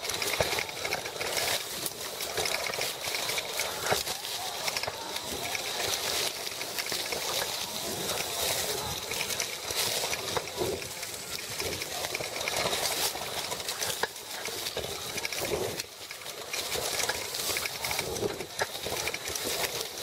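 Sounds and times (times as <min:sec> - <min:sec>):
bike frame rattling over bumps: 0:00.0 - 0:20.0.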